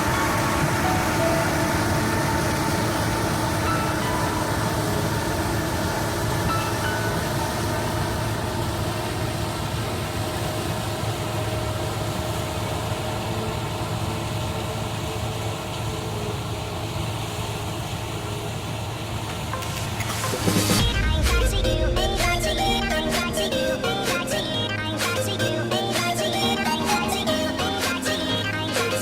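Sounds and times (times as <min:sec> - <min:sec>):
diesel engine humming: 0:00.0 - 0:29.0
noisy rush: 0:00.0 - 0:29.0
whining machine drives: 0:00.0 - 0:29.0.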